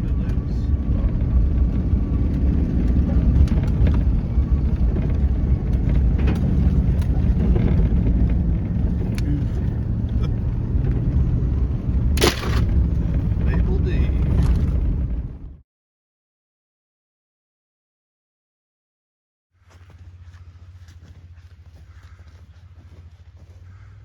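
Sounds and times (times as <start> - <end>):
road noise: 0.0 - 15.6, 19.6 - 24.0
vehicle engine rumble: 0.0 - 15.6, 19.6 - 24.0.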